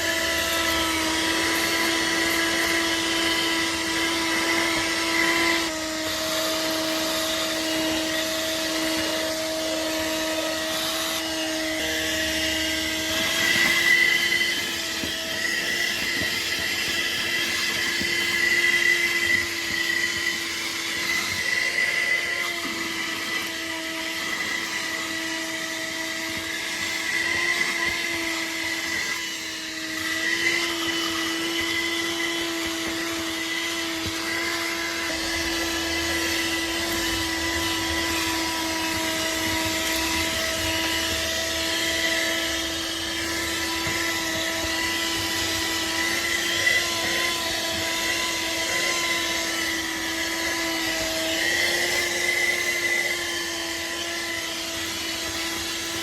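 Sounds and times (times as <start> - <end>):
handheld vacuum running: 0.0 - 56.0.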